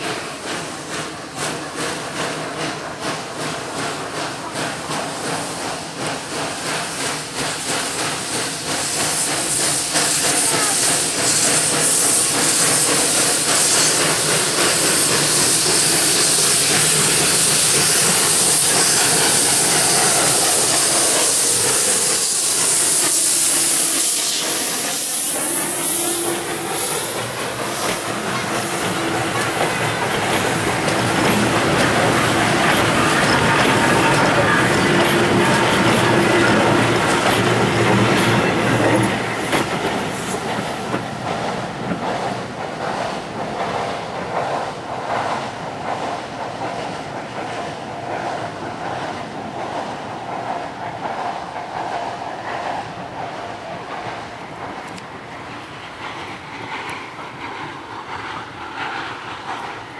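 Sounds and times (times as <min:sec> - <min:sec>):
loud steam hiss: 0:00.0 - 0:59.9
steam locomotive exhaust chuffs: 0:00.0 - 0:59.9
train coaches rolling past: 0:00.0 - 0:59.9.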